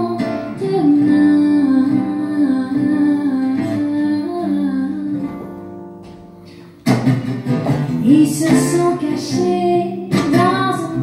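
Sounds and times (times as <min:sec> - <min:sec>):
woman singing: 0:00.0 - 0:05.8, 0:07.9 - 0:11.0
plucked acoustic guitar: 0:00.0 - 0:11.0.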